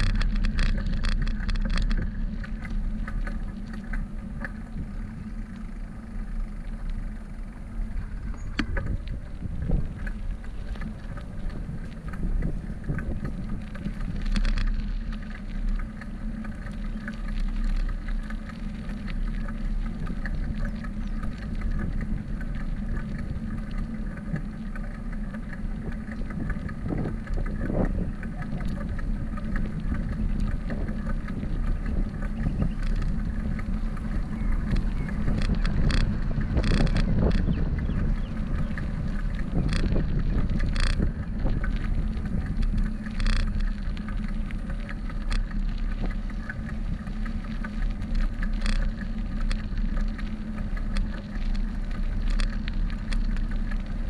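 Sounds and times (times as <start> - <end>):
bicycle rolling on asphalt: 0.0 - 54.0
wind rumbling on microphone: 0.0 - 54.0.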